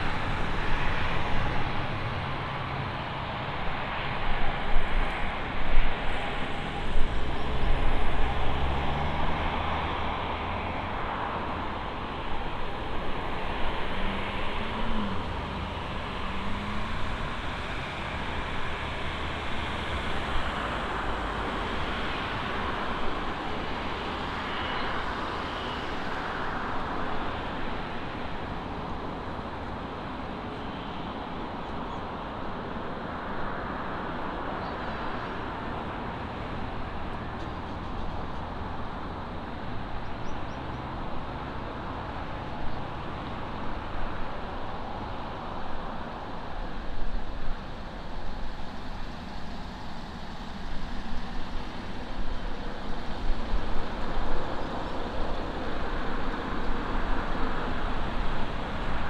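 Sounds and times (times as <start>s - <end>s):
engine and traffic roar: 0.0s - 59.0s.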